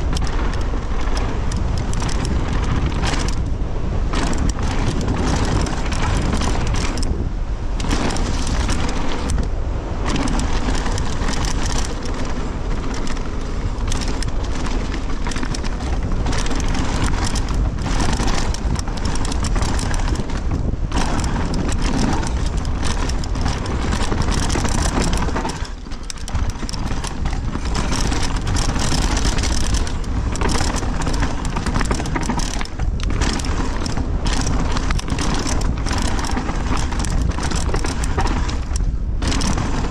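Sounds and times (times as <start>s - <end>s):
bike rattling over bumps: 0.0s - 39.9s
bike tyre noise on dirt: 0.0s - 39.9s
wind buffeting microphone: 0.0s - 39.9s.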